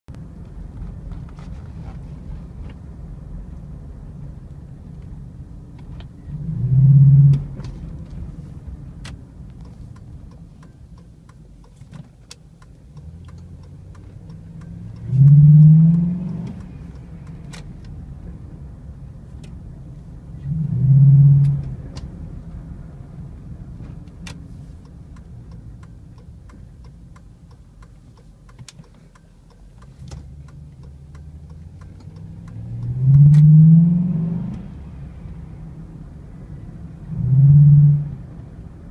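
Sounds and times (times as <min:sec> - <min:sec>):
low engine rumble: 0:00.1 - 0:38.9
car engine revving: 0:00.2 - 0:38.9.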